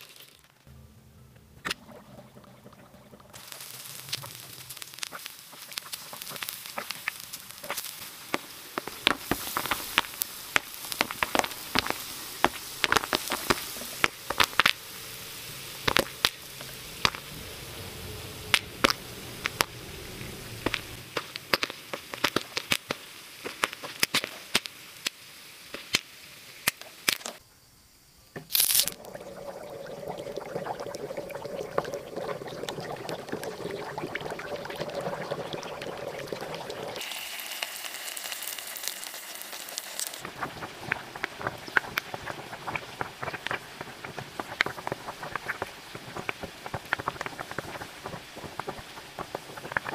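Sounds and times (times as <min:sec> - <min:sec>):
liquid bubbling and fizzing: 0:01.4 - 0:26.0, 0:28.4 - 0:49.9
popcorn popping: 0:03.3 - 0:17.3, 0:20.6 - 0:27.4, 0:28.4 - 0:49.9.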